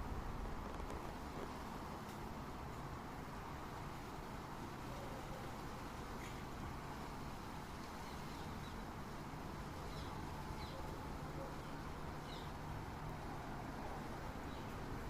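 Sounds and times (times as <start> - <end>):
city background hum: 0.0 - 15.0.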